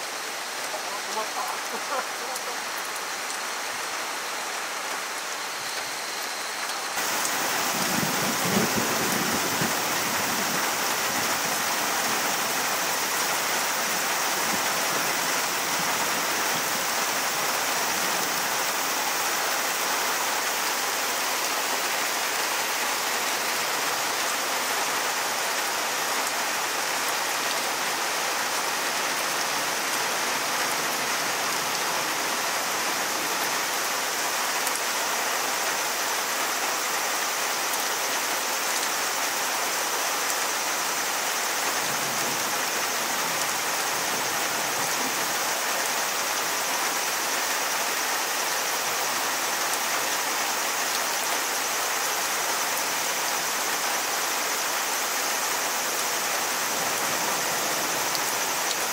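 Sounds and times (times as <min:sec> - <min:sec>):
torrential rain: 0:00.0 - 0:58.9.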